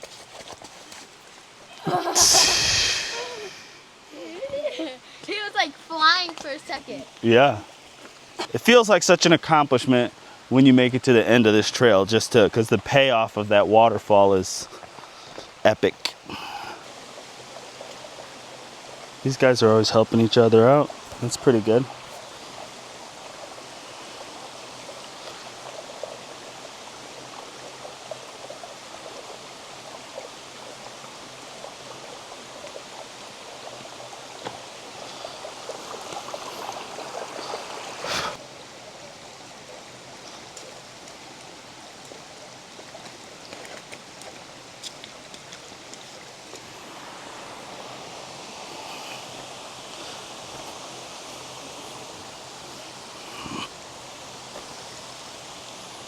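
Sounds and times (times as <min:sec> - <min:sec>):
creek and waterfall rushing: 0:00.0 - 0:56.0.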